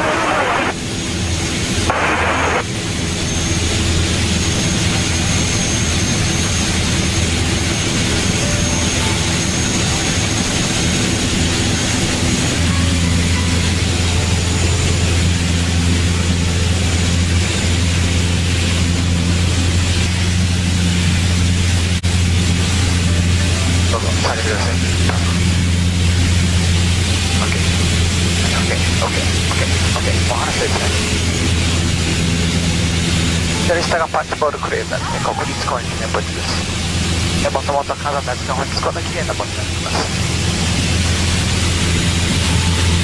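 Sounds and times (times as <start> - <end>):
aircraft engine and propeller droning: 0.0 - 43.0
thin high whine: 0.0 - 43.0.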